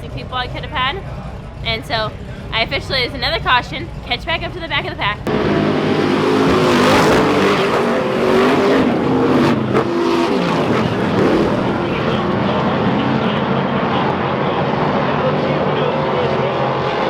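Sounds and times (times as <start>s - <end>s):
race truck engines revving: 0.0s - 17.0s.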